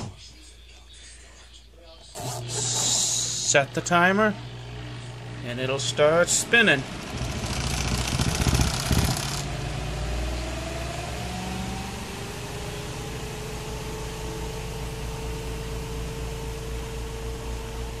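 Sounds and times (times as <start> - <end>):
spin-dryer motor whining: 2.2 - 18.0.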